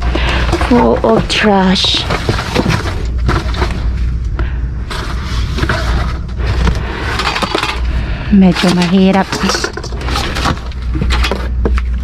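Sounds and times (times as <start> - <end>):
rummaging through trash: 0.0 - 12.0
steady low rumble: 0.0 - 12.0.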